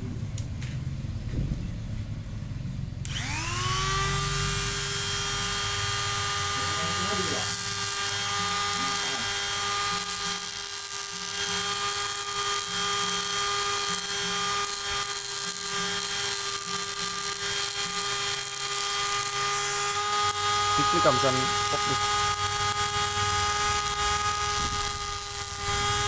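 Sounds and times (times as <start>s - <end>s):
mini grinder motor whining: 3.0s - 26.0s
grinding stone on rock: 4.8s - 26.0s.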